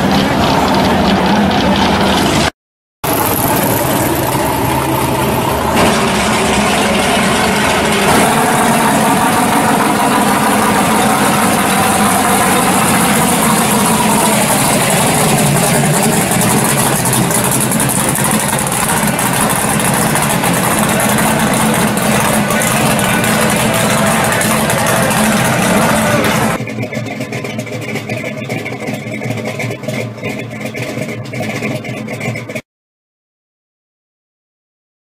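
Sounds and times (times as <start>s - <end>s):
vehicle engine idling: 0.0s - 32.6s.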